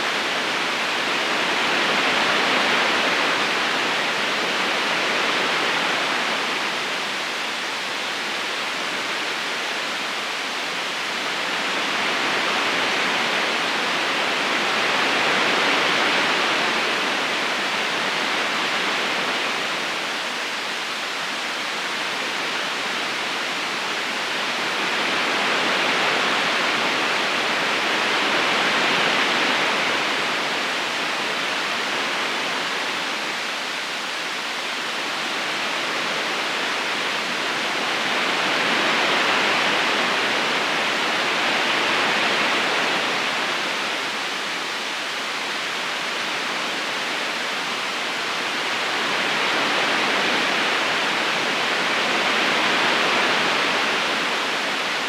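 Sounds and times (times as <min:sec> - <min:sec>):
river current rushing: 0:00.0 - 0:55.0.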